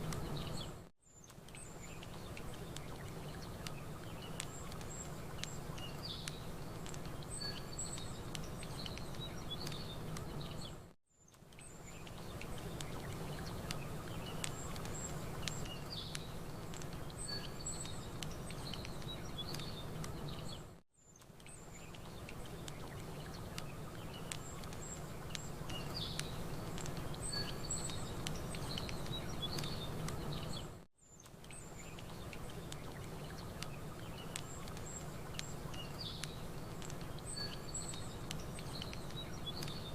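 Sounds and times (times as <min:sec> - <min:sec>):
birds chirping: 0:00.0 - 0:10.9, 0:11.6 - 0:39.9
campfire crackling and popping: 0:00.0 - 0:39.9.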